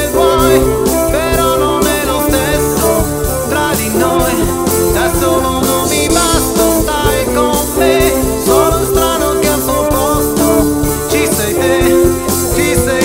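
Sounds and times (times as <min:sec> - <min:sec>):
electric guitar lead with bent notes: 0:00.0 - 0:13.0
pop-rock band with drum kit: 0:00.0 - 0:13.0.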